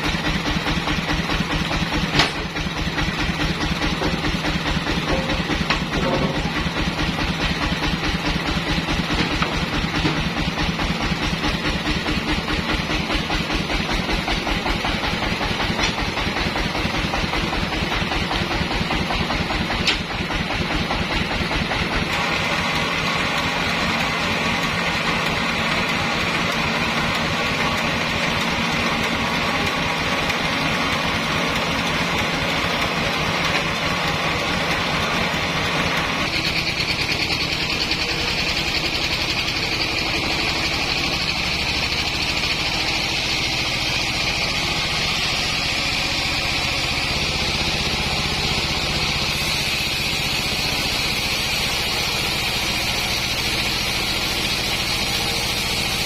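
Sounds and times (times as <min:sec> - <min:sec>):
sawmill engine pulsing: 0:00.0 - 0:56.0.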